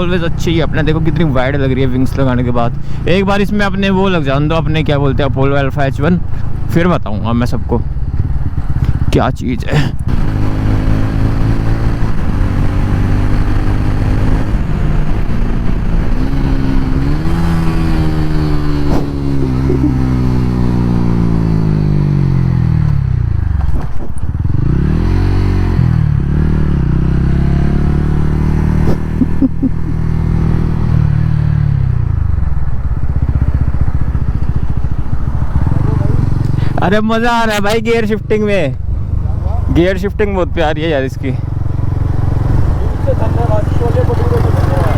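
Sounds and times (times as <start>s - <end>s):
motorcycle engine and exhaust: 0.0s - 44.9s.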